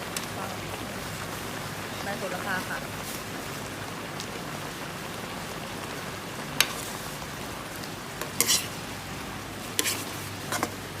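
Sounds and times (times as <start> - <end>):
broth bubbling on the boil: 0.0 - 11.0.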